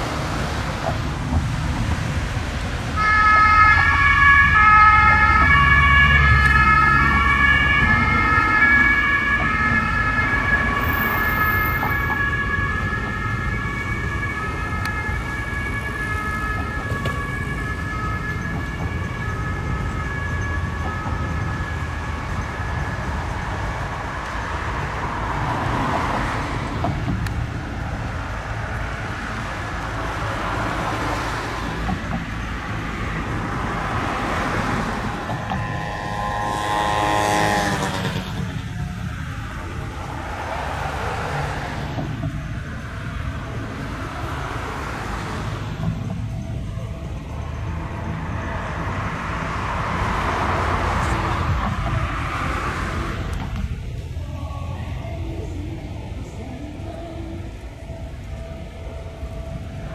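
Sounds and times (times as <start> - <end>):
two-tone emergency siren: 0.0 - 55.2, 55.9 - 59.9
vehicle engine rumble: 0.0 - 59.9.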